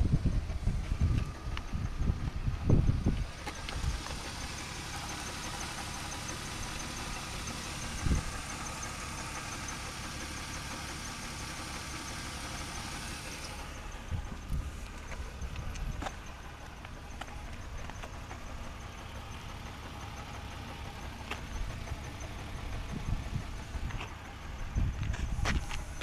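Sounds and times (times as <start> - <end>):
car engine idling with misfire: 0.0 - 26.0
faint regular ticking: 0.5 - 26.0.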